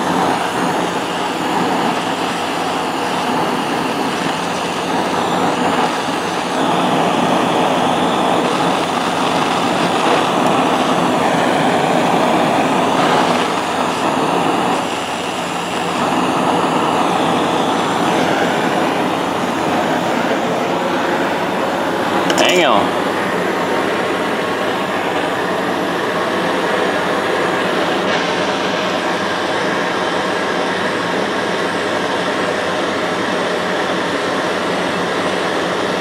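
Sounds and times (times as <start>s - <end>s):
torch flame hissing: 0.0s - 36.0s.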